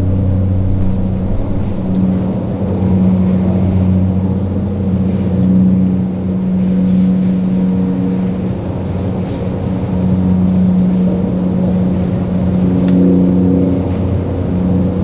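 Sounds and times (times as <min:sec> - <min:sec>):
machine droning: 0:00.0 - 0:15.0.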